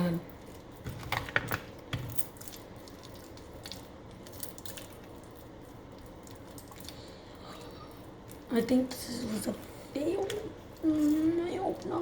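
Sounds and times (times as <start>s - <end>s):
slime squelching by hand: 0.0s - 12.0s.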